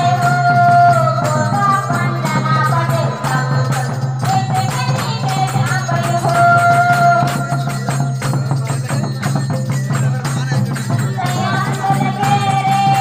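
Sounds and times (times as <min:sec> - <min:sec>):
hand drum beats: 0:00.0 - 0:13.0.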